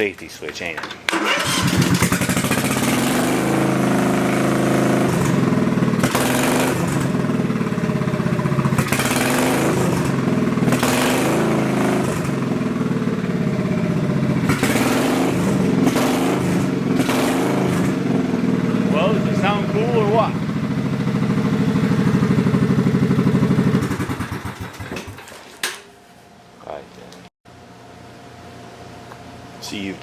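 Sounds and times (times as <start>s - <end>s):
mower engine revving: 1.1s - 25.3s.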